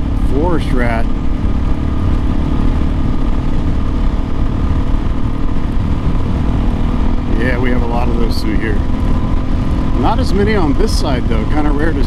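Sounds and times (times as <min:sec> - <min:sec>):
motorcycle engine cruising: 0:00.0 - 0:12.0
road noise: 0:00.0 - 0:12.0
wind rushing: 0:00.8 - 0:11.5.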